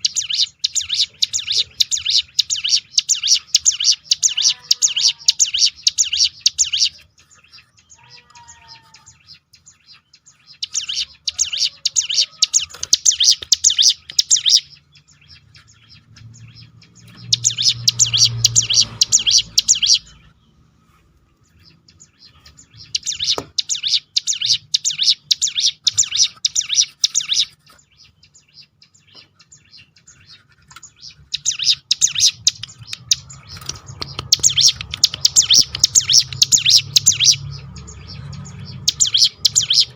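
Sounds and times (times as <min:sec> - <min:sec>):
bird rattling song: 0:00.0 - 0:20.6, 0:21.3 - 0:39.9.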